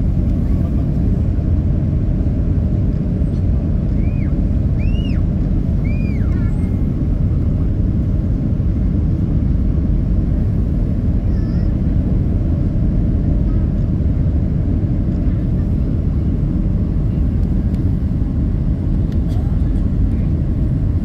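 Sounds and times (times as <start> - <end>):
airplane cabin engine rumble: 0.0 - 21.0.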